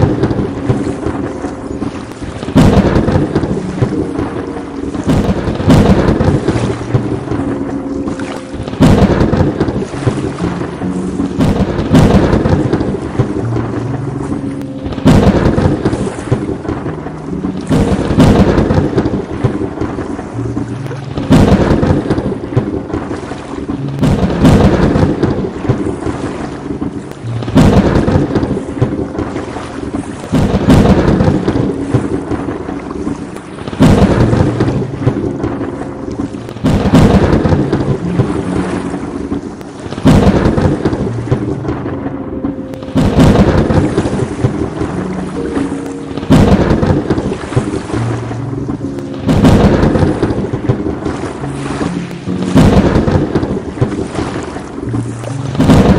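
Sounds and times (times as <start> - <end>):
steady rain: 0.0 - 55.9
thunderclaps rumbling: 0.0 - 55.9.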